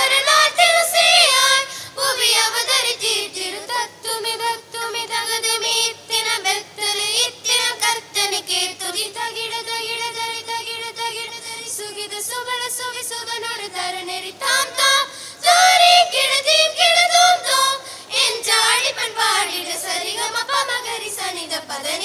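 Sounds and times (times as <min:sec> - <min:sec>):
children singing a carol: 0:00.0 - 0:22.0.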